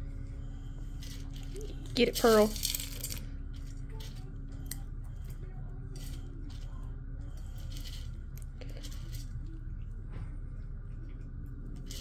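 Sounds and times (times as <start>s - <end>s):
low room hum: 0.0s - 12.0s
cats crunching dry kibble: 0.7s - 9.9s, 11.0s - 12.0s.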